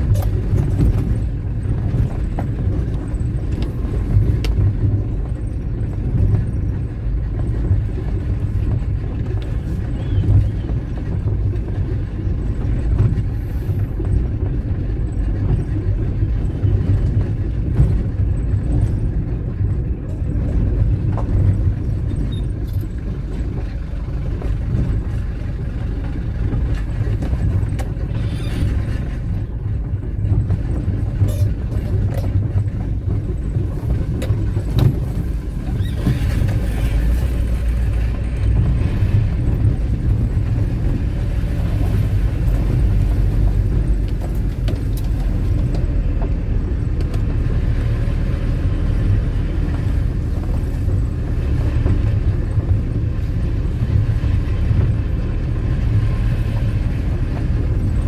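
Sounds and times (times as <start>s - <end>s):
car engine rumble: 0.0s - 58.0s
road noise: 0.0s - 58.0s.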